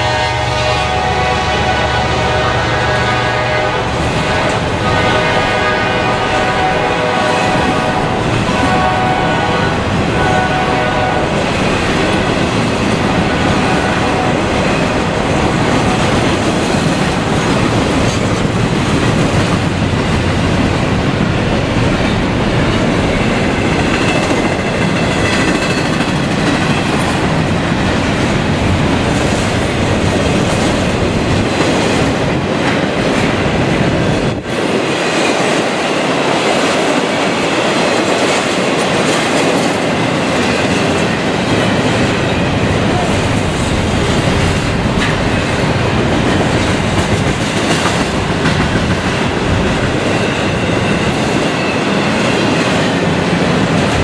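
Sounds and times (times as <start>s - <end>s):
train wheels rumbling on rails: 0.0s - 54.0s
clickety-clack over rail joints: 3.3s - 54.0s.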